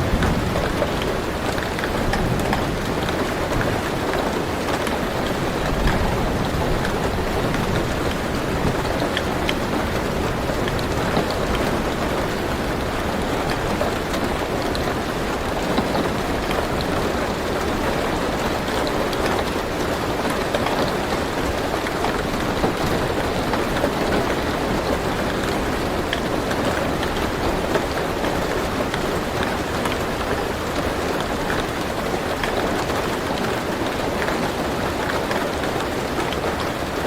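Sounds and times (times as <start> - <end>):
rain on a car roof: 0.0 - 37.0.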